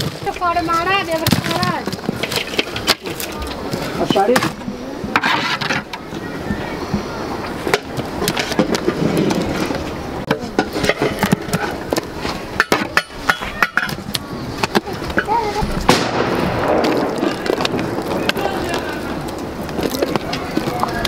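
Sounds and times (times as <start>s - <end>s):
indistinct voices: 0.2s - 21.0s.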